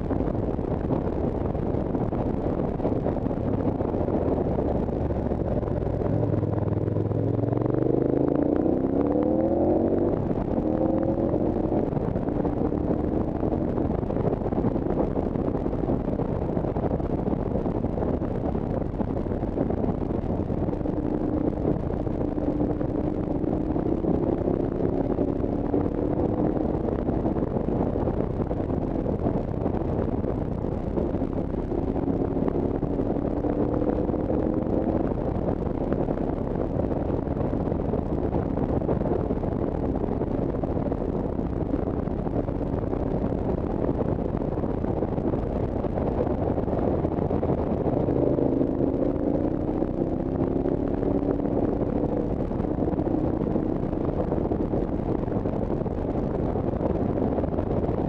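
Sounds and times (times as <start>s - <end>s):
wind rushing: 0.0s - 58.0s
vehicle engine accelerating: 2.0s - 15.4s, 19.6s - 54.7s.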